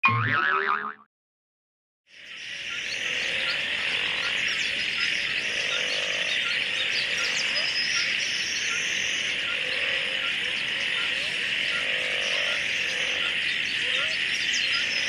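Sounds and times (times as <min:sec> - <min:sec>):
frogs calling: 0:02.1 - 0:15.0
insects trilling: 0:02.2 - 0:15.0.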